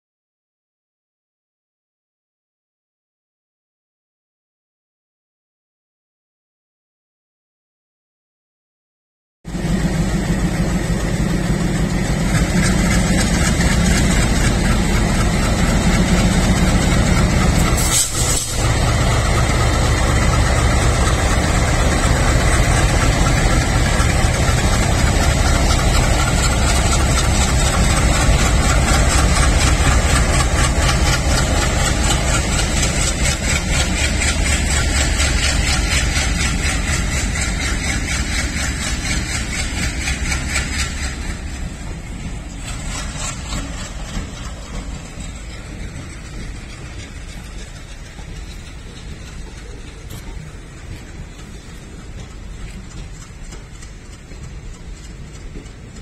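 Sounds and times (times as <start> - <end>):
diesel locomotive engines throbbing: 9.5 - 56.0.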